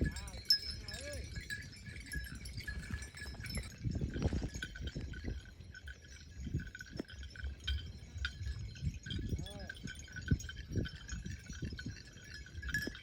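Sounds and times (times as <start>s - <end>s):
cow bells clinking: 0.0s - 13.0s.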